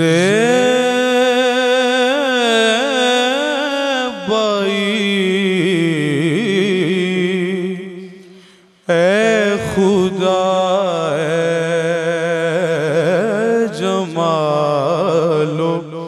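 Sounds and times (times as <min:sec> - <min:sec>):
man singing melismatic devotional song: 0:00.0 - 0:16.0.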